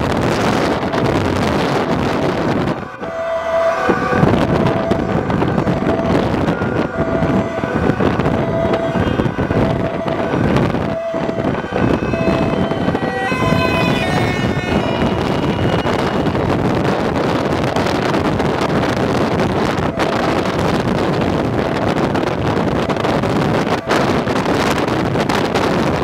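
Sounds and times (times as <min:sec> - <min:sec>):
emergency vehicle siren: 0:00.0 - 0:26.0
higher stepping siren tones: 0:00.0 - 0:26.0
road noise from moving vehicle: 0:00.0 - 0:26.0
wind buffeting microphone: 0:00.0 - 0:26.0.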